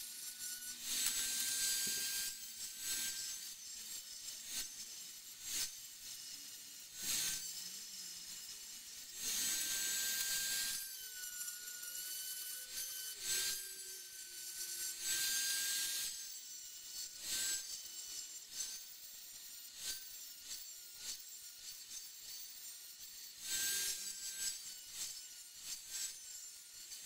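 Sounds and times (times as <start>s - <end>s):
die grinder whining: 0.0s - 27.0s.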